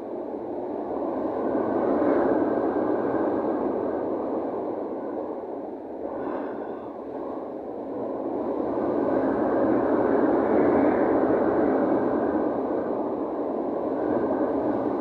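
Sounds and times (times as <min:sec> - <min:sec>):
wind rushing over deck: 0:00.0 - 0:15.0.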